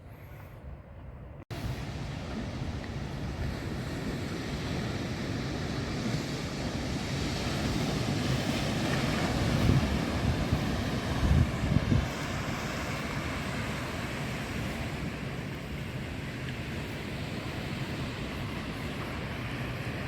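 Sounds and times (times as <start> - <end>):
wind buffeting microphone: 0.7 - 20.0
ocean surf washing: 1.5 - 20.0.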